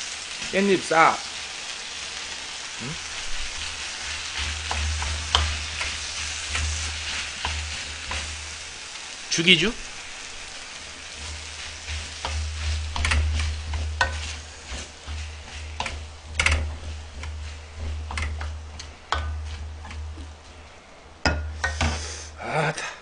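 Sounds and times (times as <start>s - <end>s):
food sizzling in a pan: 0.0s - 22.5s
wooden spatula scraping a pan: 3.0s - 22.4s.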